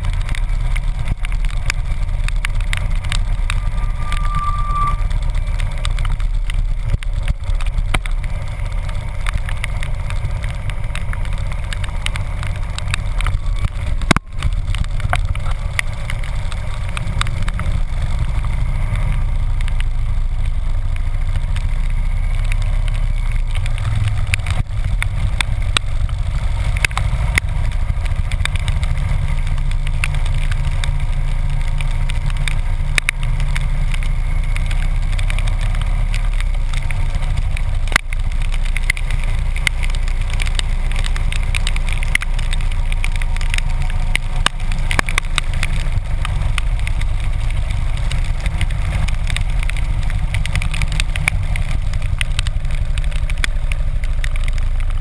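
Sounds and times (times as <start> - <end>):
motorcycle engine rumble: 0.0 - 55.0
raindrops ticking on camera: 0.0 - 55.0.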